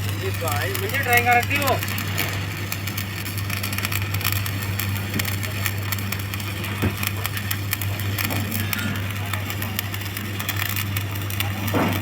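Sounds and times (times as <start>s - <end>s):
steady low hum: 0.0s - 12.0s
welding arc crackling: 0.0s - 12.0s.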